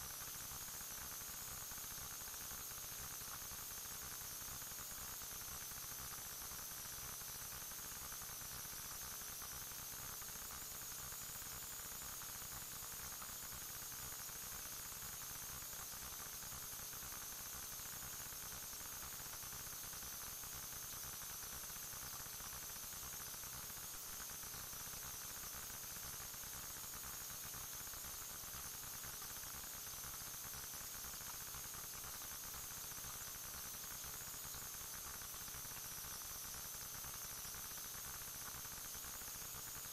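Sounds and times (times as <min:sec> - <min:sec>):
electronic static hiss: 0:00.0 - 0:39.9.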